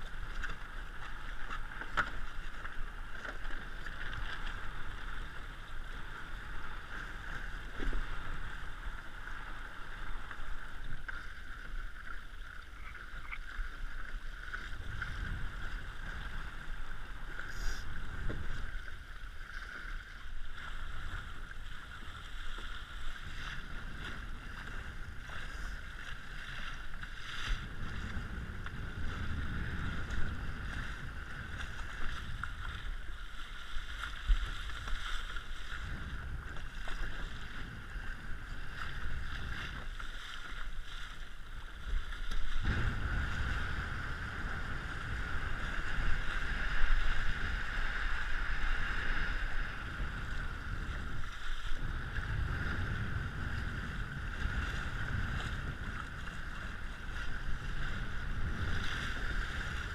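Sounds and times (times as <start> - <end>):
wind buffeting camera: 0.0 - 33.2, 33.8 - 59.9
water slapping hull: 0.0 - 59.9.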